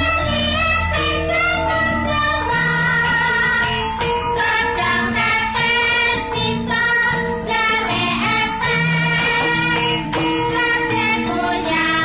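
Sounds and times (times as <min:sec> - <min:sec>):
gamelan ensemble playing: 0:00.0 - 0:12.0.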